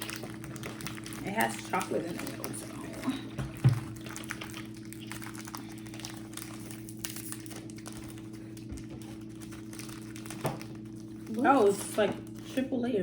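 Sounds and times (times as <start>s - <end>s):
snack wrapper crinkling: 0.0s - 12.6s
low electrical hum: 0.0s - 13.0s.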